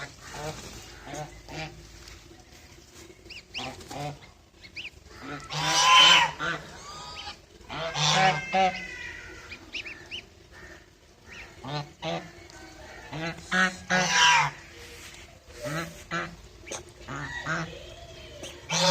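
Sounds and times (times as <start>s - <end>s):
birds calling: 0.0s - 18.9s.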